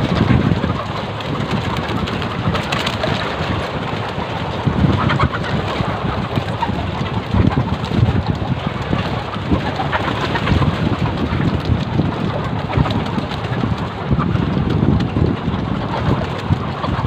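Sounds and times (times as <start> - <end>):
hens clucking: 0.0 - 17.0
steady background noise: 0.0 - 17.0.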